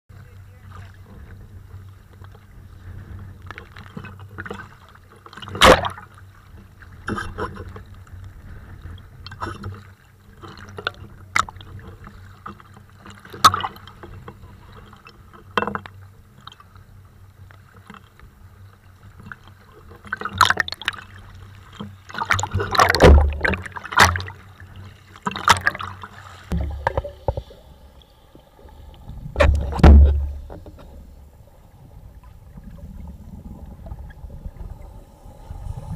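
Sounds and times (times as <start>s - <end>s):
low rumble of moving water: 0.1s - 35.9s
muffled underwater sloshing: 0.1s - 35.9s
sea waves splashing: 0.1s - 35.9s.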